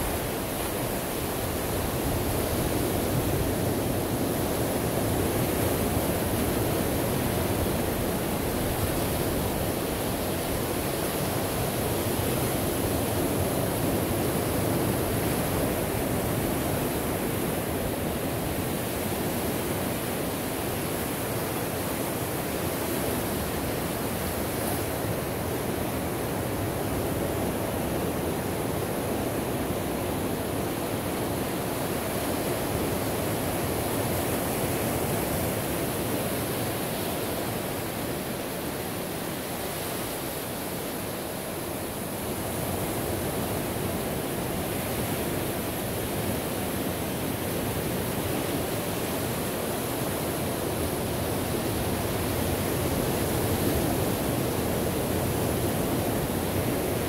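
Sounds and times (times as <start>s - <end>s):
ocean surf breaking on shore: 0.0s - 57.0s.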